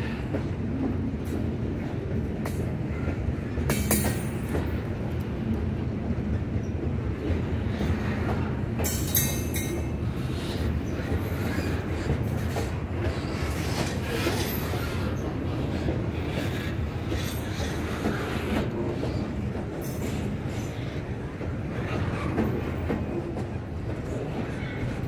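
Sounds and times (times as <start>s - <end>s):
train wheels rumbling on rail: 0.0s - 25.0s
wheels clacking over rail joints: 0.3s - 25.0s.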